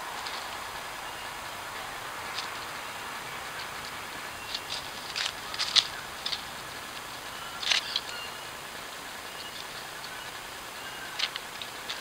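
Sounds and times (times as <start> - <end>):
microphone hiss: 0.0 - 12.0
harsh scratchy bird calls: 2.3 - 12.0.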